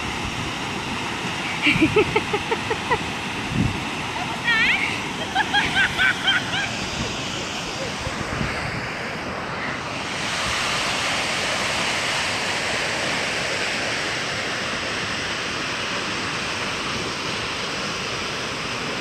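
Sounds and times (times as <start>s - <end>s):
fast-flowing water rushing: 0.0s - 19.0s.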